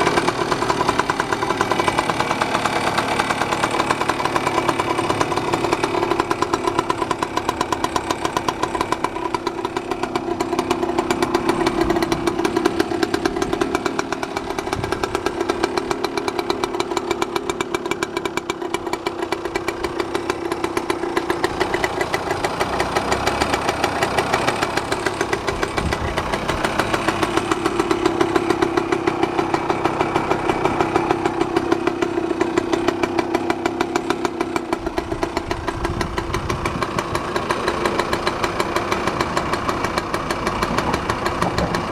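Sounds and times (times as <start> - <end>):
small two-stroke engine running: 0.0 - 41.9.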